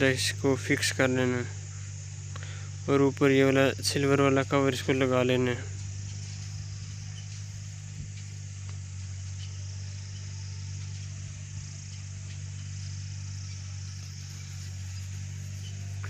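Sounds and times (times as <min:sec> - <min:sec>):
high even hiss: 0:00.0 - 0:16.0
low electrical hum: 0:00.0 - 0:16.0.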